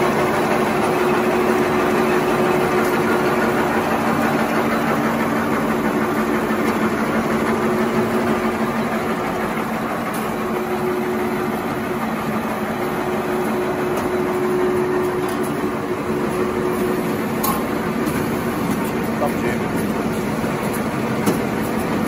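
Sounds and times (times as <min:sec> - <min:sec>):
production line machinery whirring: 0:00.0 - 0:22.0.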